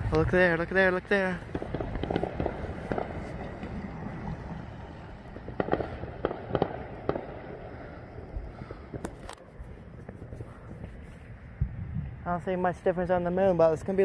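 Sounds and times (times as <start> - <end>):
fireworks bangs and pops: 0.0 - 11.3
steady low background noise: 0.0 - 14.0.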